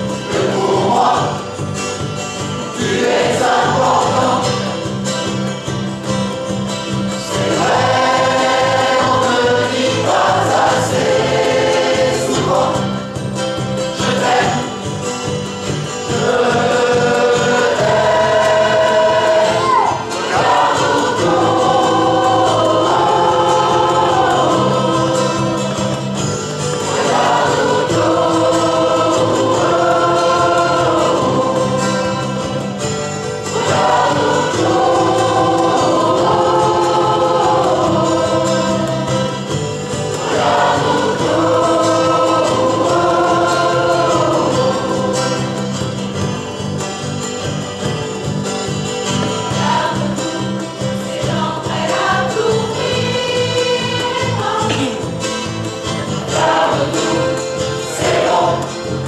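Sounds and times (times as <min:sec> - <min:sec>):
electric and acoustic guitars: 0:00.0 - 0:59.0
mixed choir singing: 0:00.0 - 0:59.0.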